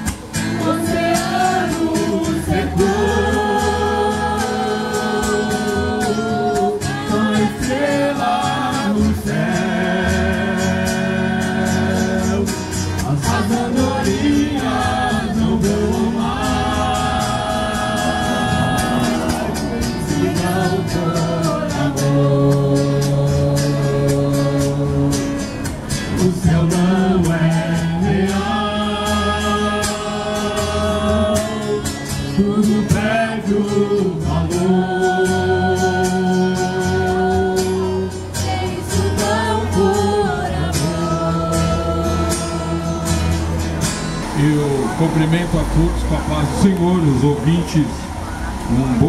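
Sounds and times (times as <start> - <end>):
group singing gospel song: 0.0 - 49.0
strummed acoustic guitar: 0.0 - 49.0.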